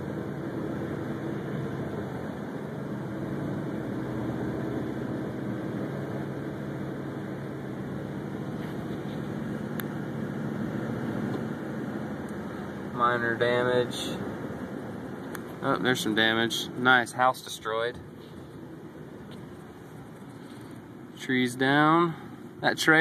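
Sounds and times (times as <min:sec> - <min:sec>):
car engine hum: 0:00.0 - 0:23.0
road noise on wet road: 0:00.0 - 0:23.0.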